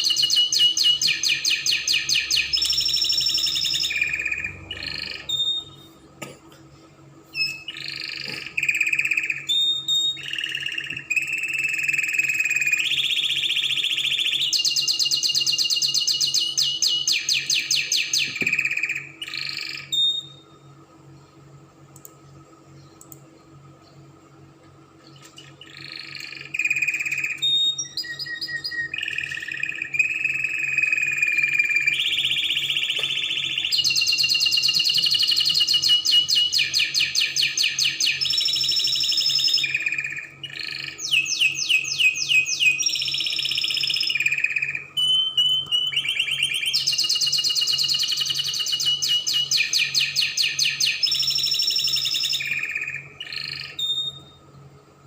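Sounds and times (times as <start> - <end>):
canary singing trills and whistles: 0.0 - 6.0, 7.3 - 20.7, 25.0 - 54.4.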